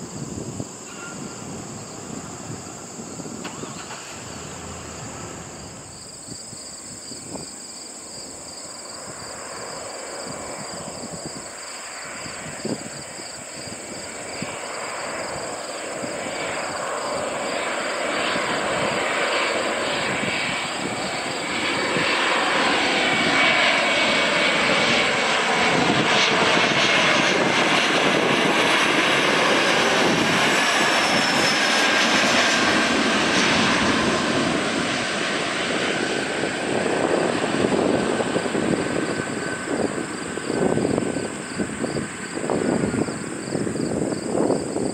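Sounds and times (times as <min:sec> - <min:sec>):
crickets chirping: 0:00.0 - 0:44.9
jet engines roaring: 0:00.0 - 0:44.9
wavering engine whine: 0:00.0 - 0:44.9.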